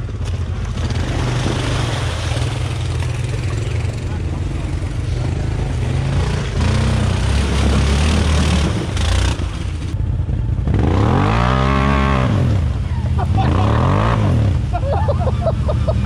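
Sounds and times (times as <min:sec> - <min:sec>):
atv engine revving: 0:00.0 - 0:16.0.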